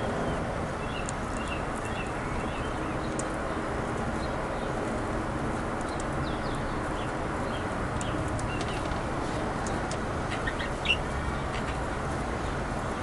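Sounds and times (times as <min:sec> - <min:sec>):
steady background noise: 0:00.0 - 0:13.0
small birds chirping: 0:00.2 - 0:04.8, 0:05.8 - 0:13.0.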